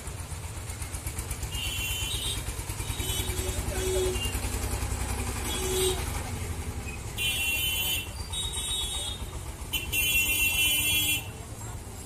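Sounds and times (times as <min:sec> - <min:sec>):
motorcycle and scooter engines: 0:00.0 - 0:12.0.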